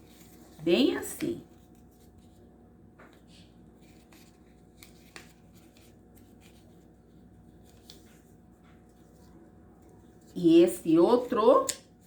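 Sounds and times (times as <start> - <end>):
paper rustling being folded: 0.0 - 10.5.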